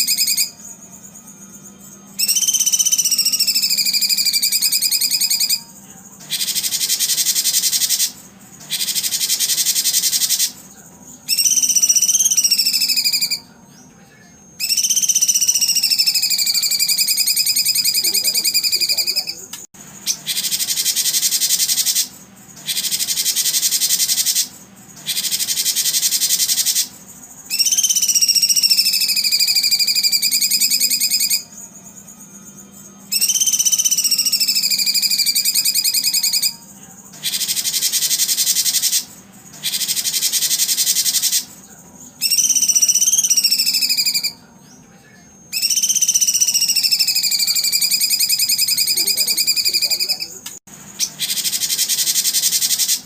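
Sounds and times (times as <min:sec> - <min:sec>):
buzzing insect chirring: 0:00.0 - 0:13.5, 0:14.5 - 0:44.5, 0:45.1 - 0:53.0
pulsed bird trilling: 0:00.0 - 0:13.6, 0:14.6 - 0:44.5, 0:45.5 - 0:53.0.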